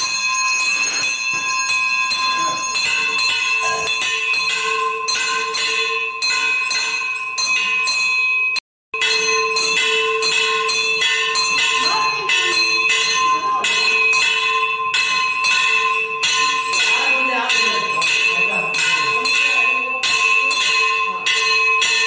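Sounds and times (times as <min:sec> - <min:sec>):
bells ringing: 0:00.0 - 0:22.0.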